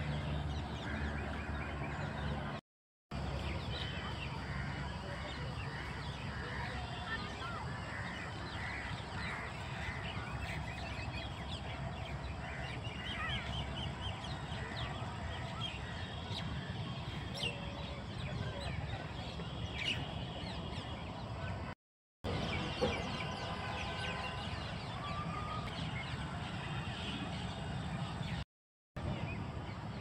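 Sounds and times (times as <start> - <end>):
birds calling and chirping: 0.0 - 2.6, 3.2 - 28.4.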